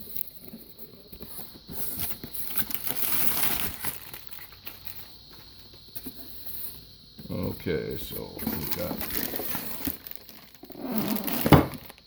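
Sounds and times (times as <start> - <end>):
packaging crinkling and rustling: 0.0 - 6.7, 8.0 - 12.0.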